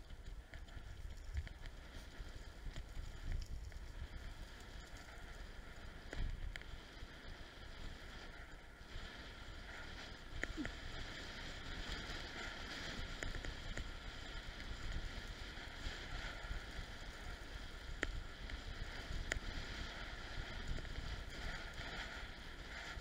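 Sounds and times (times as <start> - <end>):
bicycle tyre hiss on asphalt: 0.0 - 23.0.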